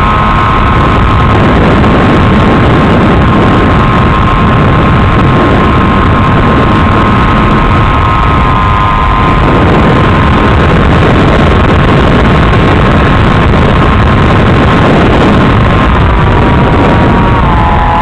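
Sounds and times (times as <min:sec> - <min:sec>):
high whine: 0:00.0 - 0:18.0
rushing wind noise: 0:00.0 - 0:18.0.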